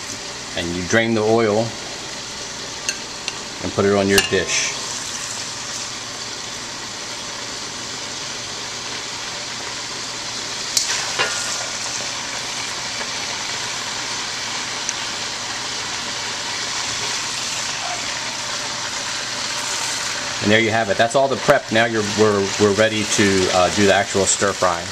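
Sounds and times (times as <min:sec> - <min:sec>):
hot oil sizzling in a wok: 0:00.0 - 0:24.9.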